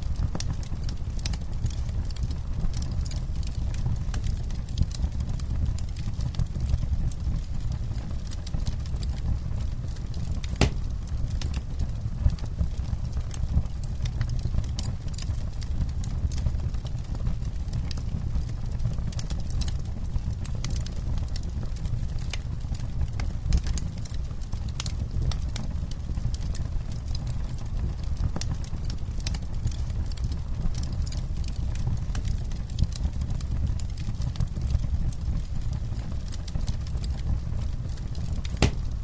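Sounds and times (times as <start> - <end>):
low fire rumble: 0.0 - 39.0
wood crackling and popping in fire: 0.0 - 39.0.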